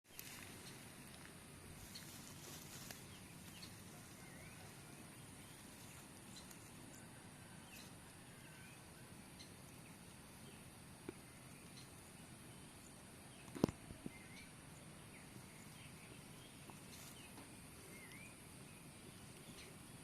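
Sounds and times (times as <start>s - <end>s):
bird chirps: 0.1s - 20.0s
insects droning: 0.1s - 20.0s.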